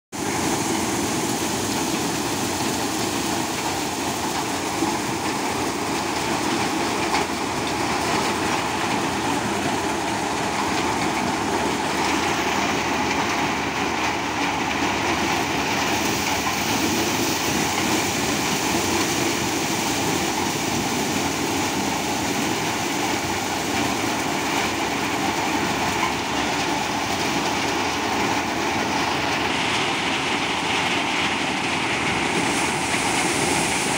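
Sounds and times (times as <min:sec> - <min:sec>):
maize shelling machine running: 0:00.2 - 0:33.9.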